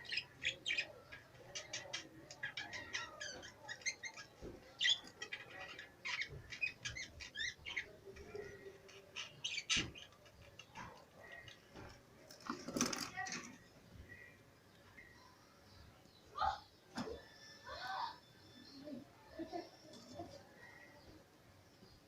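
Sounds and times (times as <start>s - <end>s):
small cage birds chirping: 0.0s - 22.0s.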